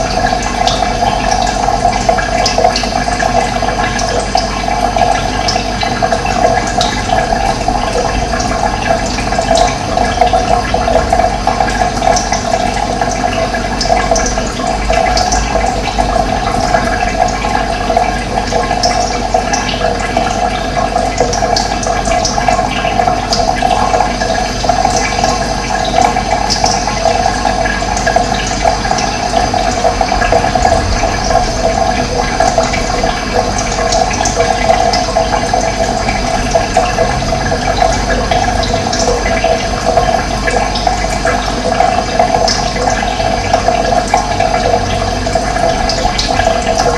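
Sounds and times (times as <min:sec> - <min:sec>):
running water gurgling: 0:00.0 - 0:46.9.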